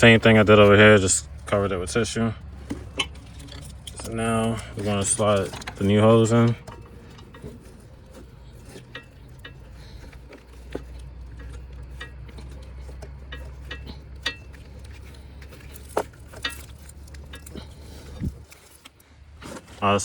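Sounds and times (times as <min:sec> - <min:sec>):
rubber hose rubbing and clicking: 0:00.0 - 0:20.0
steady low hum: 0:00.0 - 0:20.0.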